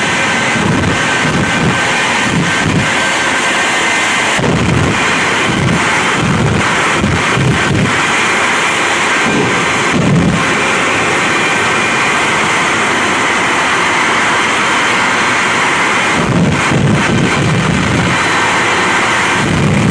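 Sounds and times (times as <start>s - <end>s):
loud jet engine blast: 0.0s - 19.9s.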